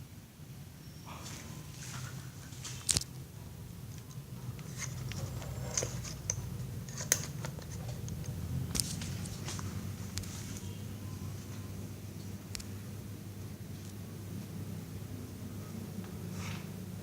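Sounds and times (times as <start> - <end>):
ceiling fan whirring: 0.0 - 17.0.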